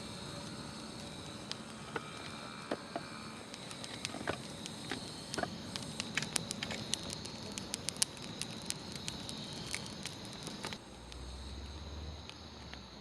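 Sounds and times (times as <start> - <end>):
campfire crackling and popping: 0.0 - 13.0
soft fire hiss: 0.0 - 13.0.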